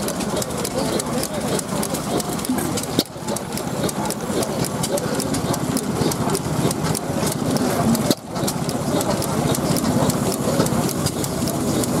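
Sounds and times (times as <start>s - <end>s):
old engine running: 0.0s - 12.0s.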